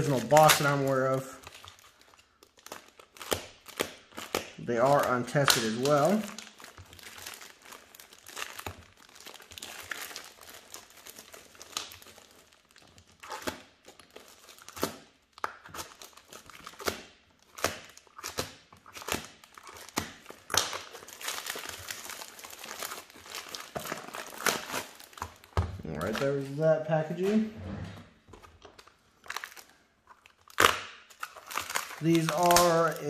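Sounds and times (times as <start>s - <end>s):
plastic bag crinkling: 0.0s - 16.8s, 18.8s - 27.5s, 28.3s - 33.0s
plastic bag tearing: 0.0s - 27.5s, 28.7s - 33.0s.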